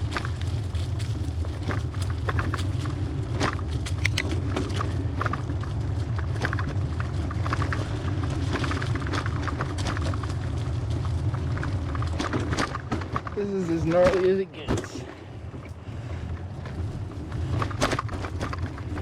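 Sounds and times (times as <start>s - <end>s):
bicycle tyres rumbling on dirt: 0.0s - 19.0s
bike rattling over bumps: 0.0s - 19.0s.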